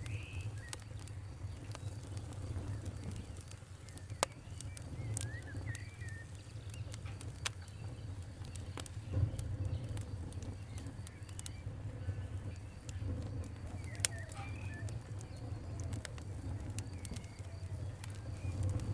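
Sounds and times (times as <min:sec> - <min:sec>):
bird chirping: 0:00.0 - 0:18.8
fire rumbling: 0:00.0 - 0:18.9
wood fire crackling: 0:00.0 - 0:18.9.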